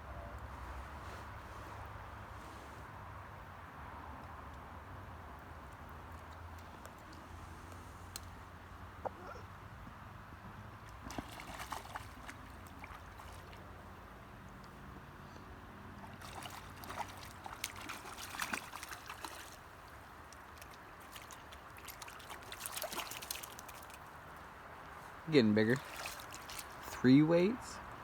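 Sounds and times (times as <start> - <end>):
faint trickling water: 4.3 - 9.6, 10.7 - 28.0.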